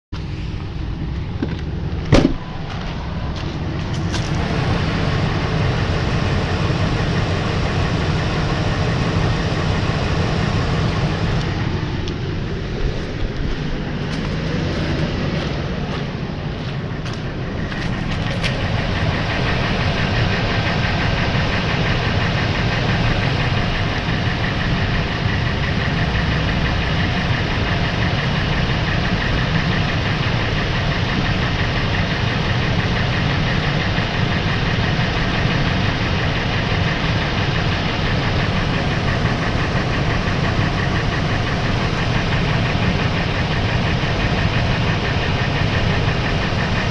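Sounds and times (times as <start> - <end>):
engine idling with even knock: 0.2 - 46.9.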